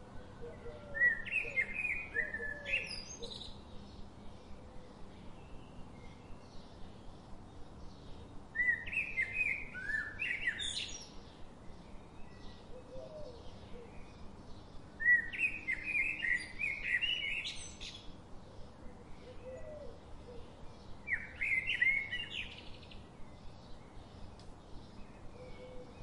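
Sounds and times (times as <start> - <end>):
faint chirps of small birds: 0.0 - 26.0
songbird song: 0.0 - 26.0.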